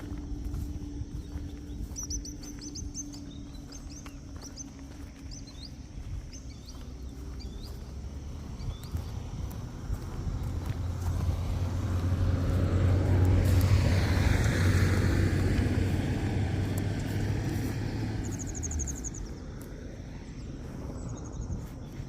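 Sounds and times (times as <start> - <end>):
small songbird chirping: 0.0 - 22.0
steady low rumble: 0.0 - 22.0.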